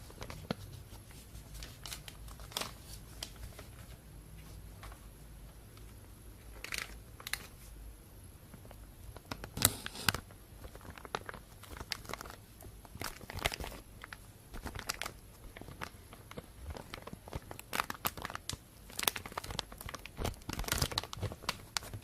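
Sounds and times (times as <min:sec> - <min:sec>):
plastic bag crinkling: 0:00.0 - 0:04.0, 0:06.5 - 0:07.7, 0:08.6 - 0:22.0.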